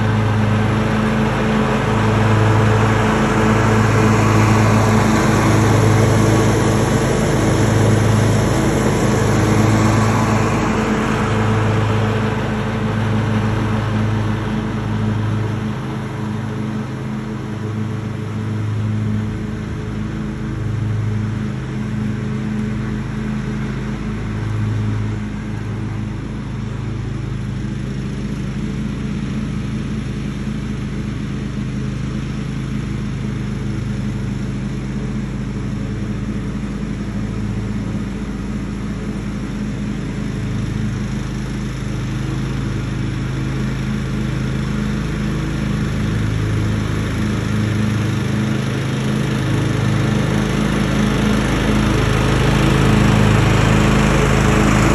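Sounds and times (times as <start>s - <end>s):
riding lawn mower running: 0.0s - 54.9s.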